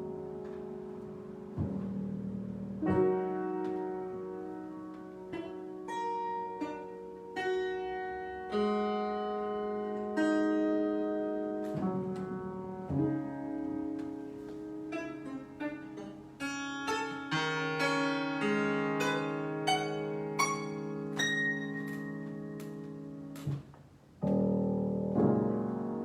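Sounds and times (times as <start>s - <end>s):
slow solo piano: 0.0s - 15.0s, 17.4s - 26.0s.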